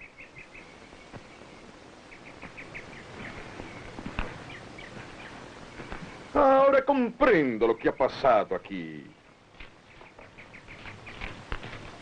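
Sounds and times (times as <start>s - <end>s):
birds chirping: 0.0s - 12.0s
faint hiss: 0.0s - 12.0s.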